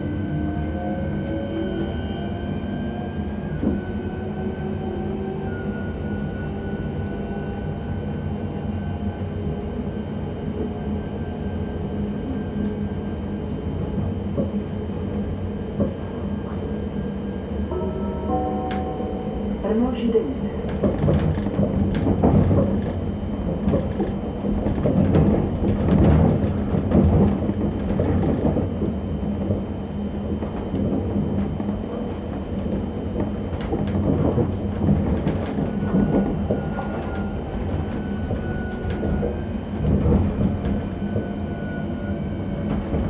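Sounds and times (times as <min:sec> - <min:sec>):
train rumbling over rails: 0:00.0 - 0:43.0.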